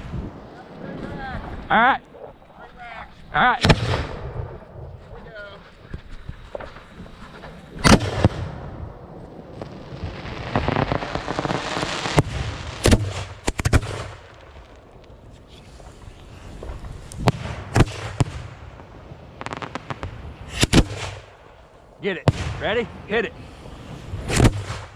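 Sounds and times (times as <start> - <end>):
fireworks crackling hiss: 0.0 - 24.9
fireworks bangs: 3.3 - 24.9.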